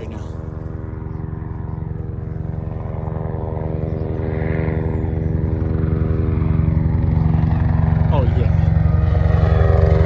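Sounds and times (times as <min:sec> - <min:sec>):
helicopter rotor beating: 0:00.0 - 0:10.0.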